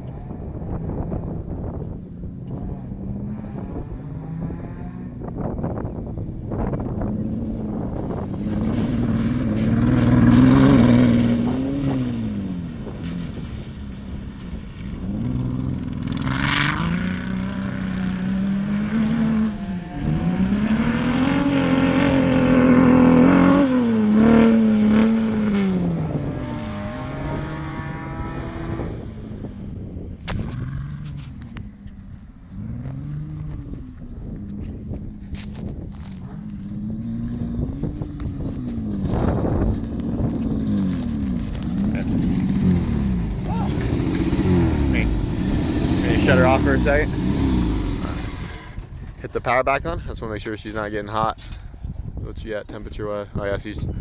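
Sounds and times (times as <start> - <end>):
dune buggy engine revving: 0.0 - 51.3.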